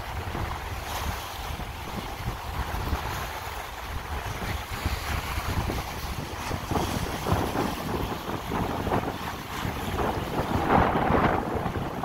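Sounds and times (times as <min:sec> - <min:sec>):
loud water splashes: 0:00.0 - 0:12.0
waves washing against seawall: 0:00.0 - 0:12.0
wind buffeting microphone: 0:00.0 - 0:12.0.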